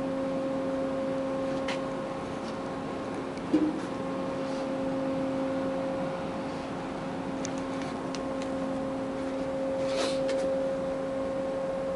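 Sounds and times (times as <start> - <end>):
ship machinery humming: 0.0 - 11.9.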